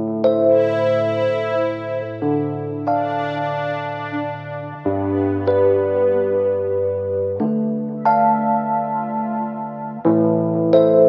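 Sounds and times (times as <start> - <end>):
sustained keyboard chords: 0.0 - 11.0.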